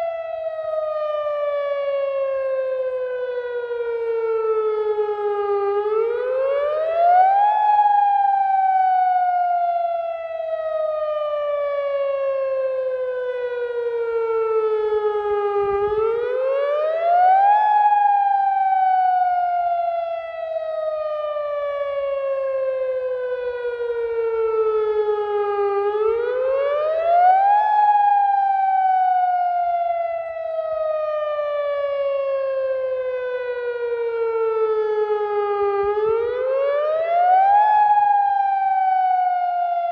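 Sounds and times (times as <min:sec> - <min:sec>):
electronic warning siren wailing: 0:00.0 - 0:39.9.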